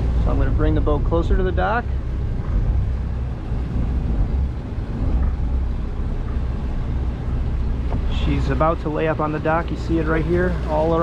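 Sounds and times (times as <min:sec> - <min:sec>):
boat diesel engines rumbling: 0:00.0 - 0:11.0.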